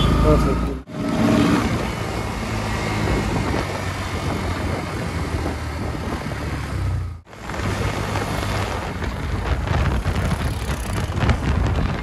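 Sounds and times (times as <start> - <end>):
road vehicle rumble: 0.0 - 12.0
wind on microphone: 0.9 - 12.0.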